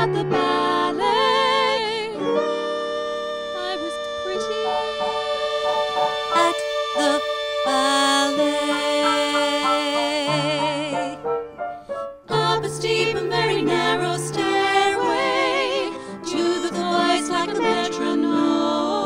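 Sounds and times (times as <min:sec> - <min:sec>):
women singing with vibrato: 0:00.0 - 0:11.2, 0:12.3 - 0:19.0
instrumental accompaniment: 0:02.2 - 0:18.8.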